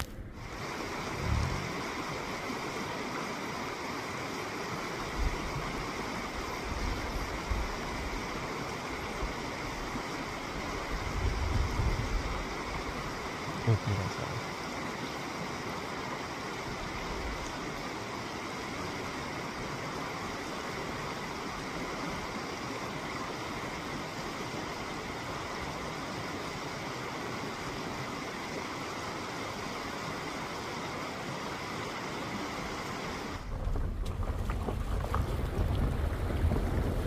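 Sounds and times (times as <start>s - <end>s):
river rushing over stones: 0.0s - 37.0s.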